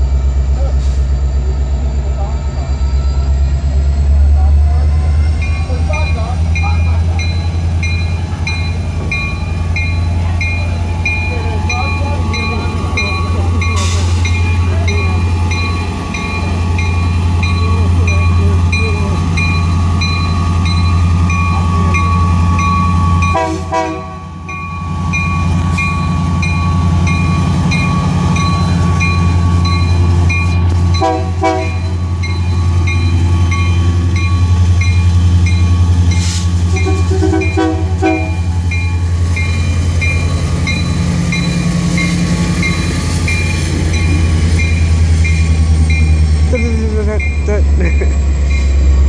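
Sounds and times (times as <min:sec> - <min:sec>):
freight locomotives passing: 0:00.0 - 0:49.0.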